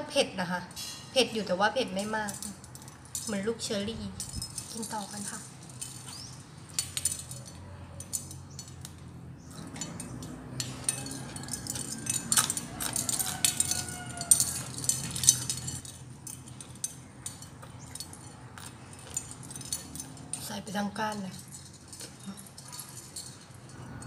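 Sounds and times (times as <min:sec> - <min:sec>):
shell wind chime clinking: 0:01.9 - 0:24.0.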